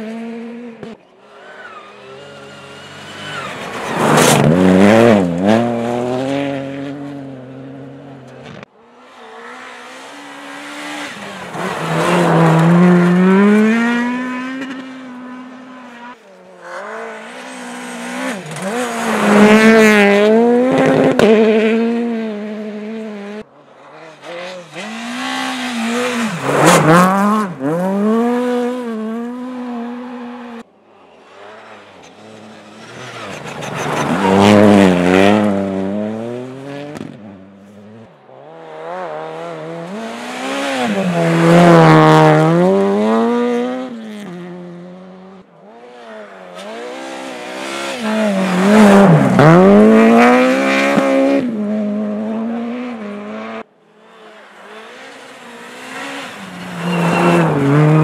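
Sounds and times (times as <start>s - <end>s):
rally car engines revving past: 0.0s - 58.0s.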